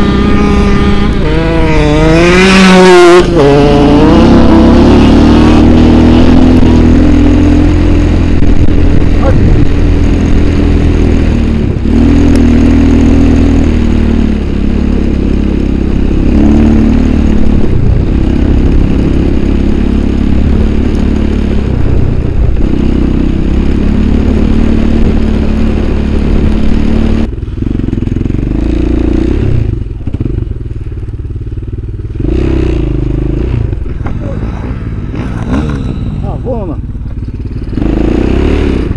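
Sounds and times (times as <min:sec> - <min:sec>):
vehicle engine revving: 0:00.0 - 0:30.6, 0:32.1 - 0:38.9.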